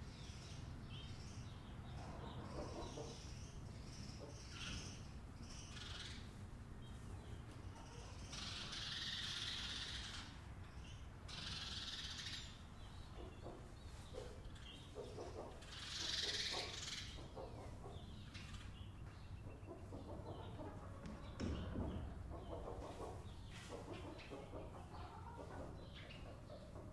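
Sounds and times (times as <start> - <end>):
chickens clucking softly: 1.5 - 10.6, 12.2 - 26.9.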